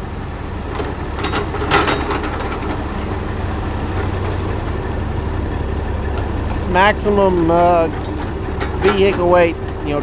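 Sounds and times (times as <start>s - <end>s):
heavy diesel machinery running: 0.0s - 10.0s.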